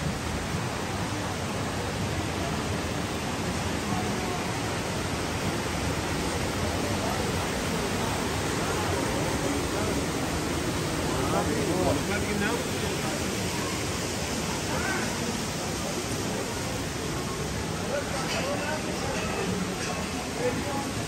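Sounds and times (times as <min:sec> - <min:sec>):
faint voices: 0:00.0 - 0:21.0
water rushing over rocks: 0:00.0 - 0:21.0.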